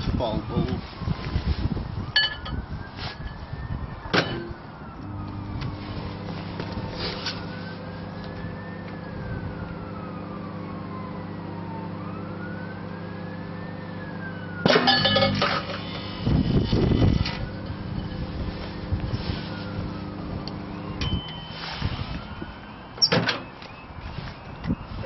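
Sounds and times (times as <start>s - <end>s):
faint wail rising and falling: 2.6s - 24.9s.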